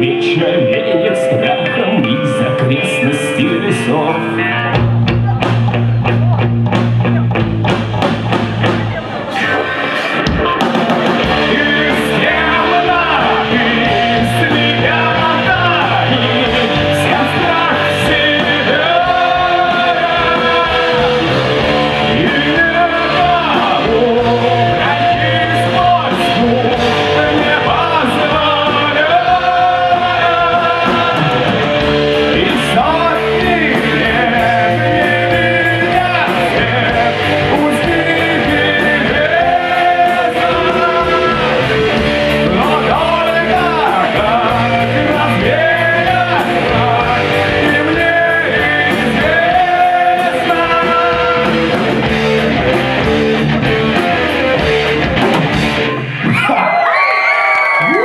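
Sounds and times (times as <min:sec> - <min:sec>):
melodic lead guitar line: 0:00.0 - 0:56.5
rock band playing: 0:00.0 - 0:57.0.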